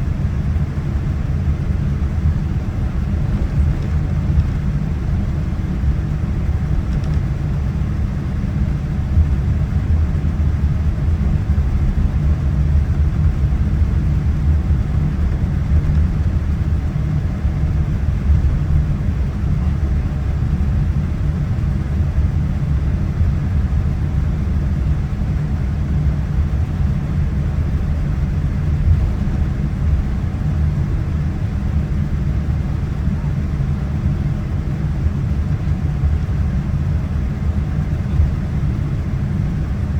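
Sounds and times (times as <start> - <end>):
aircraft engines rumbling: 0.0 - 39.9.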